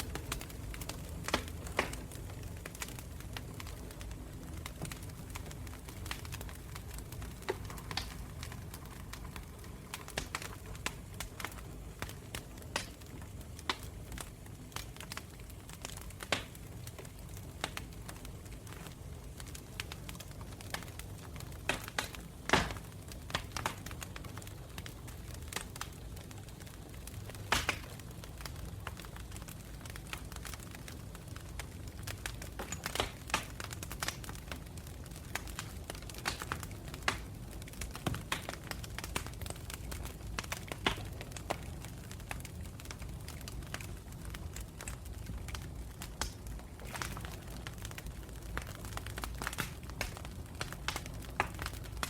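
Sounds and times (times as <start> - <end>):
low rumble of flames: 0.0 - 52.0
wood crackling and popping: 0.0 - 52.0.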